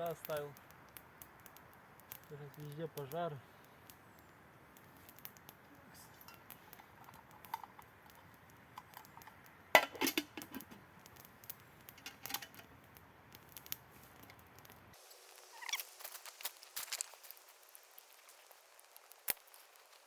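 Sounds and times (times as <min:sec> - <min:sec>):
wood campfire crackling: 0:00.0 - 0:20.0.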